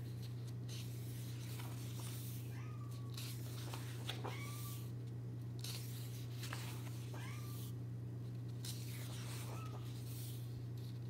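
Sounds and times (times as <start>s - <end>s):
book pages turning: 0.0s - 2.4s, 3.0s - 4.9s, 5.6s - 7.7s, 8.4s - 11.0s
steady low hum: 0.0s - 11.0s.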